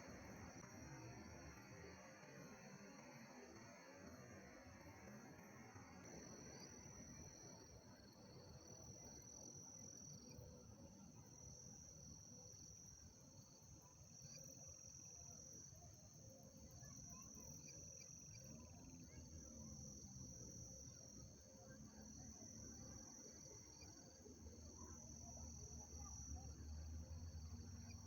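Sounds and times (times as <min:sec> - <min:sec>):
crickets chirping: 0:00.1 - 0:28.0.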